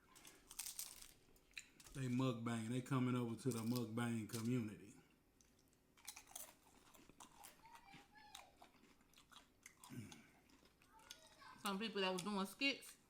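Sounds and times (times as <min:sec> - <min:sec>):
chewing and crunching taco: 0:00.0 - 0:02.2, 0:03.4 - 0:04.7, 0:05.4 - 0:13.0.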